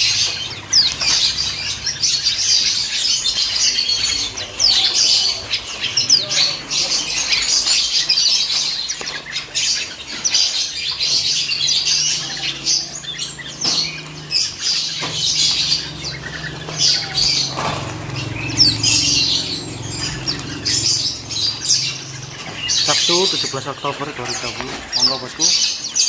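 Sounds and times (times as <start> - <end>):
wings fluttering: 0.0 - 25.4
birds chirping: 0.0 - 26.0.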